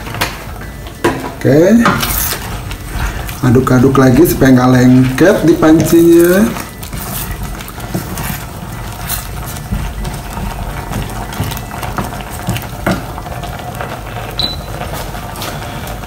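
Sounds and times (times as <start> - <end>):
wooden spoon stirring thick sauce: 2.0 - 16.0.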